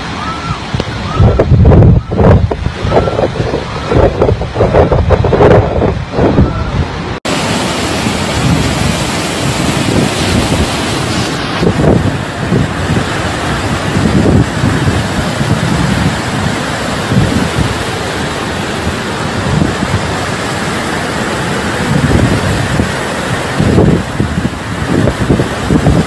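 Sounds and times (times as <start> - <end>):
storm wind buffeting microphone: 0.0 - 26.0.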